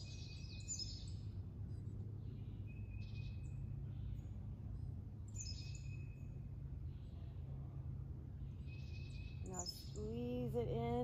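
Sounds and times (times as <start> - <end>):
low background rumble: 0.0 - 11.0
songbirds singing: 0.0 - 11.0.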